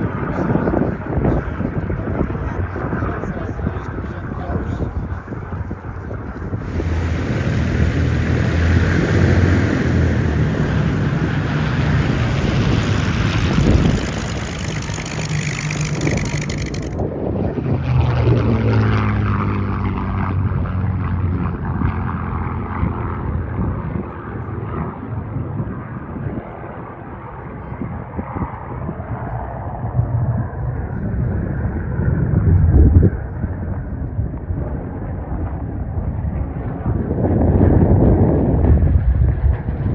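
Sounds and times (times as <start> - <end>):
propeller plane flying past: 1.8 - 39.9.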